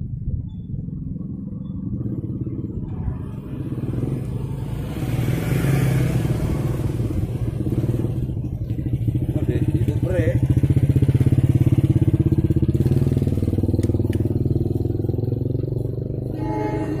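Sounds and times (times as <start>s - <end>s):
scooter engine passing by: 0.8s - 17.0s.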